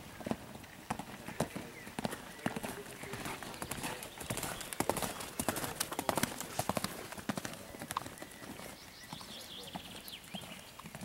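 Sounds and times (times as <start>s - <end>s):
horse hoofbeats cantering on sand: 0.0s - 11.0s.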